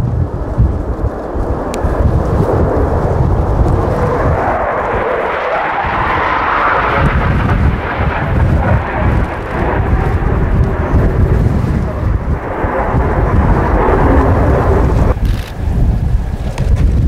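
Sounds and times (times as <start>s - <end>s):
high rushing jet sound: 0.0s - 15.7s
fighter jet engine roar: 0.0s - 17.0s.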